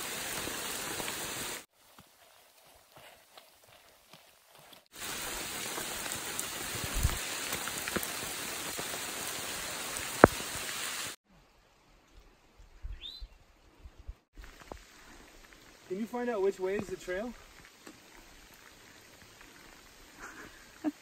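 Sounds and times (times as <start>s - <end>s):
rain hissing on leaves: 0.0s - 2.7s, 4.5s - 12.6s, 14.4s - 21.0s.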